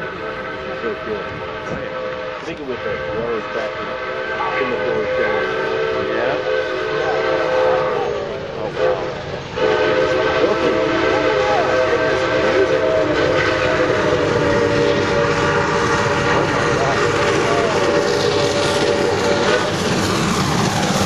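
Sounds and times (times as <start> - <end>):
steam whistle chord: 0.0 - 20.6
oncoming train noise: 0.0 - 21.0.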